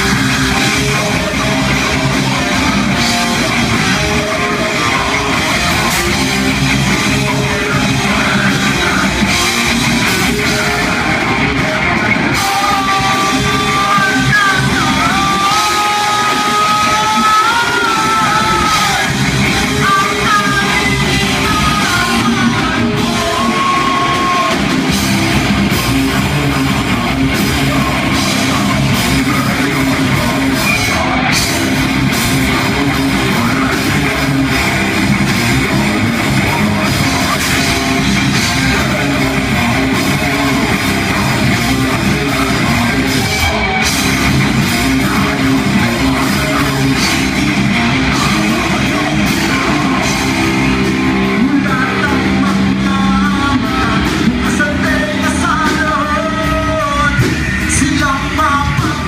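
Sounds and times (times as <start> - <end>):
heavy rock band playing: 0.0 - 59.0.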